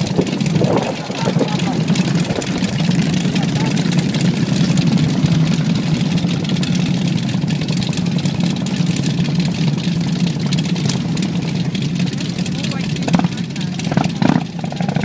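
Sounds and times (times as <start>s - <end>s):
motorcycles idling: 0.0s - 15.0s.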